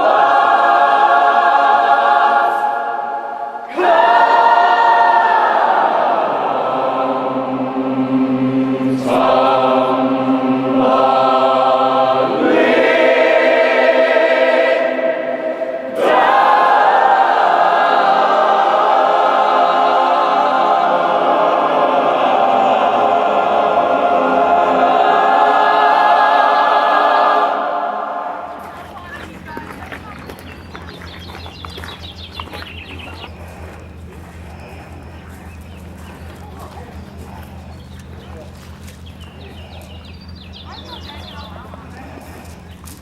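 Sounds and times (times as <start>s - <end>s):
choir singing held chords: 0.0s - 43.0s.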